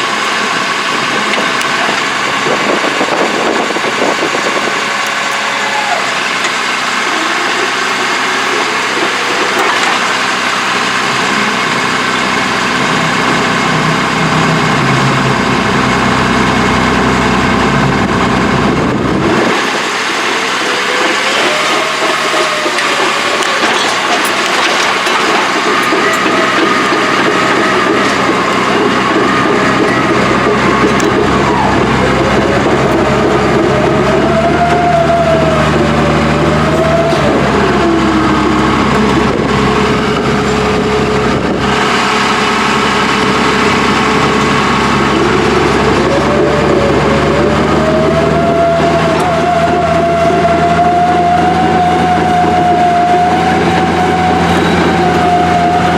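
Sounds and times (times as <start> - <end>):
diesel engine running: 0.0 - 55.9
wavering whine: 0.0 - 55.9.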